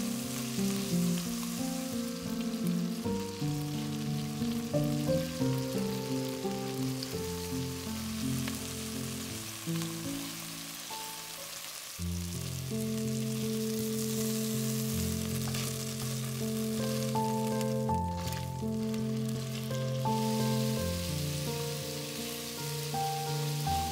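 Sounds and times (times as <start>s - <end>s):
beef sizzling in hot oil: 0.0s - 23.9s.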